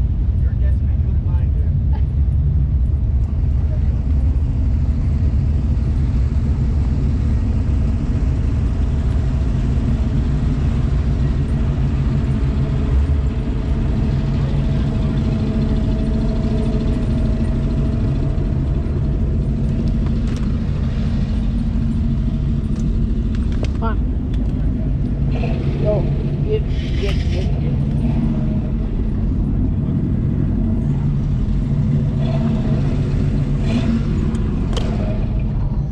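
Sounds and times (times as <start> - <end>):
car engine low rumble: 0.0 - 35.9.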